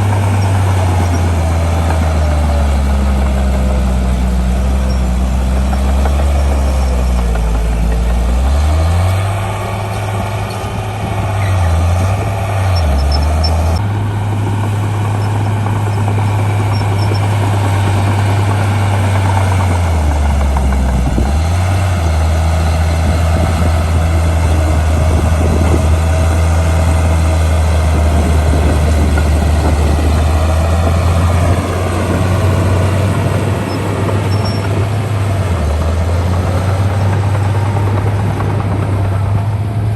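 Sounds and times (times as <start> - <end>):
heavy machine diesel engine revving: 0.0 - 39.9.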